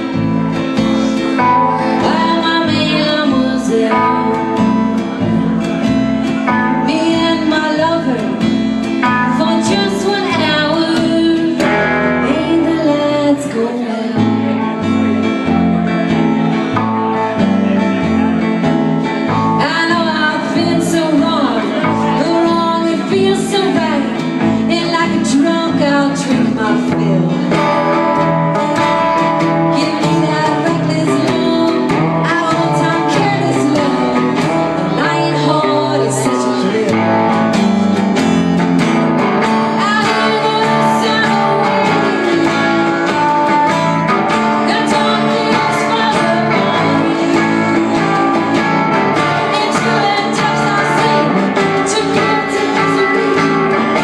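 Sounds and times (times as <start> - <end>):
woman singing: 0.0 - 15.6, 19.2 - 38.6, 39.2 - 54.0
acoustic guitar: 0.0 - 54.0.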